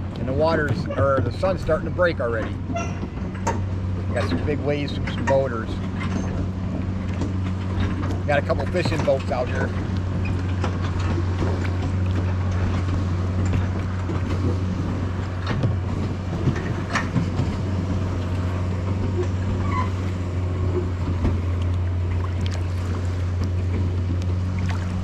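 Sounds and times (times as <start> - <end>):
boat engine droning: 0.0 - 25.0
water splashing: 0.0 - 25.0.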